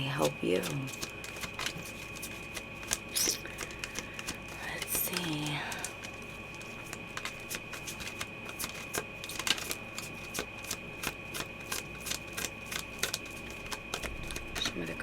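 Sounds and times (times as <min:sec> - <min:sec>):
cards being shuffled: 0:00.1 - 0:15.0.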